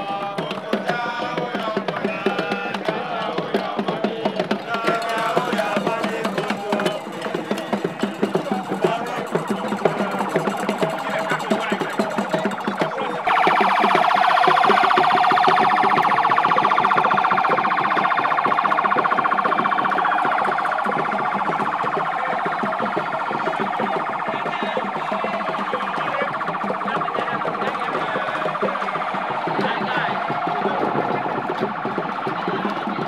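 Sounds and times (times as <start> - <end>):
vehicle siren: 4.7 - 33.0.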